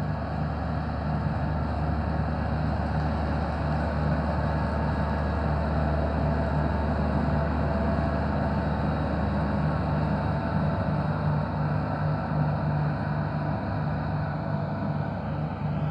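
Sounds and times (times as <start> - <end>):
tractor diesel engine under load: 0.0 - 15.9.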